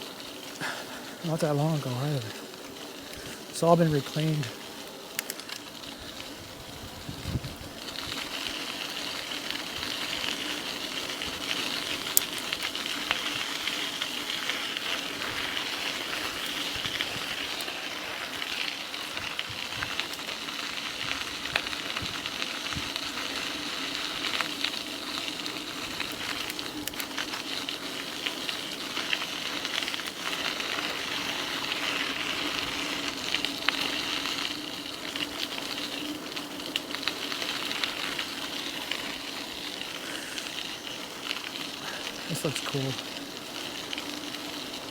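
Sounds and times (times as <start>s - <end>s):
e-bike rolling along trail: 0.0s - 44.9s
ticks and clicks from tyres: 4.8s - 6.4s, 7.8s - 42.2s.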